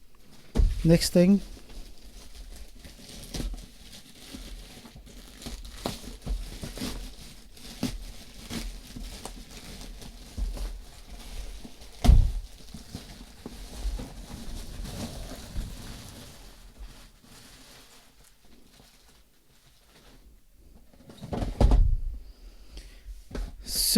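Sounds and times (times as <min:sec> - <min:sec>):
plastic packaging crinkling and tearing: 0:00.2 - 0:21.2.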